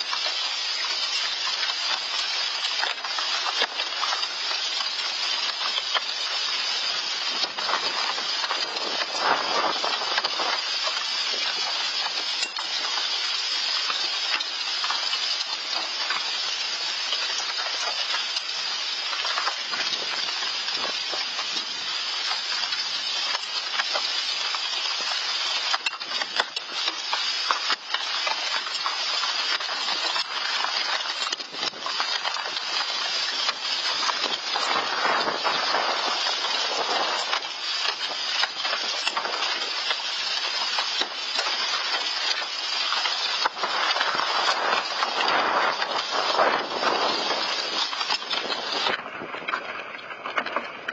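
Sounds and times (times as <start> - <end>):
hailstones pelting down: 0.0 - 50.9.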